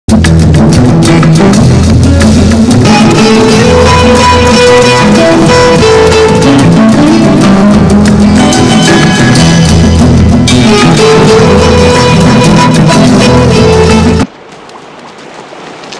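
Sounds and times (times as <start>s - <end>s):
music with guitar and drums: 0.1s - 14.3s.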